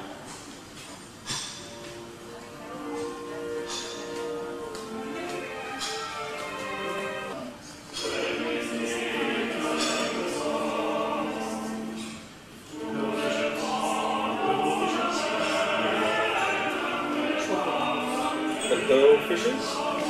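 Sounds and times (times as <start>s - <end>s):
choir singing operatic style: 2.5s - 20.0s.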